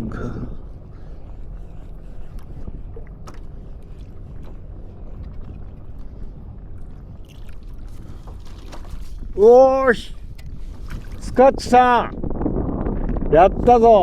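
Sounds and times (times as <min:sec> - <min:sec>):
water moving around kayak: 0:00.0 - 0:14.0
wind buffeting microphone: 0:00.0 - 0:14.0.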